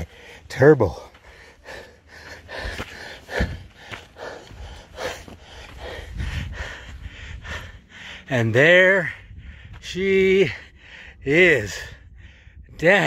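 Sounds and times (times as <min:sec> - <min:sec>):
person breathing hard: 0:00.0 - 0:08.3, 0:09.0 - 0:09.8, 0:10.4 - 0:12.8.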